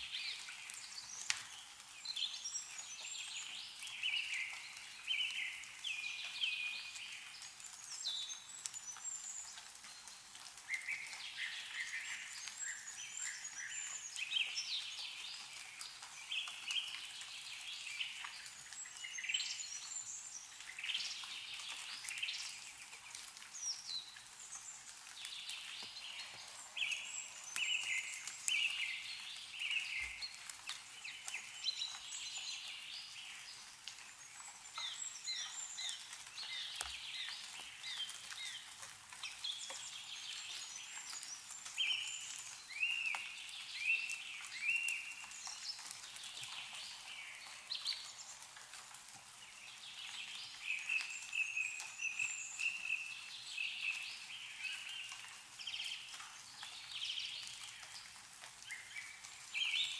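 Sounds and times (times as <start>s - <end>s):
songbirds chirping and trilling: 0.0s - 48.6s
snow drips falling from trees: 0.0s - 59.9s.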